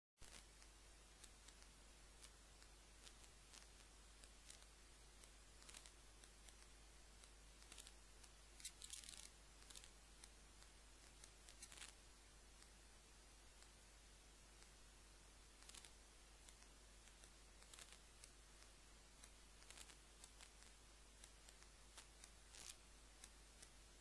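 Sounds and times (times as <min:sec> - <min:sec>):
faint hiss: 0:00.2 - 0:24.0
soft clicks and crackles: 0:00.2 - 0:24.0.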